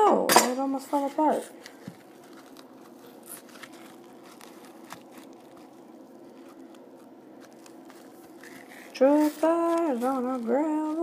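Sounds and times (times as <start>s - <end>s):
low steady hum: 0.0s - 11.0s
apple crunching by hand: 1.6s - 11.0s.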